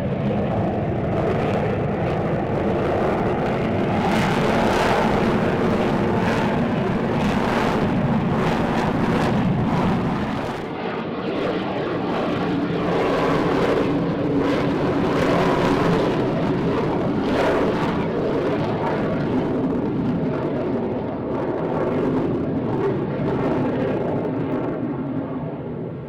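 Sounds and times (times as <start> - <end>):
aircraft engine noise: 0.0 - 26.0.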